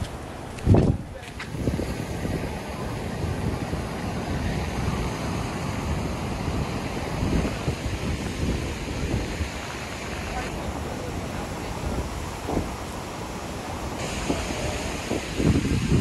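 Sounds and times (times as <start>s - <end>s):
surf breaking: 0.0s - 16.0s
wind buffeting microphone: 0.0s - 16.0s.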